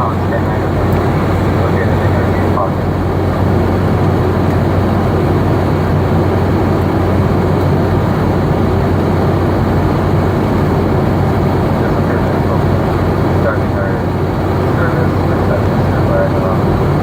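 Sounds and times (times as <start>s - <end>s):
jet cabin engine drone: 0.0s - 17.0s.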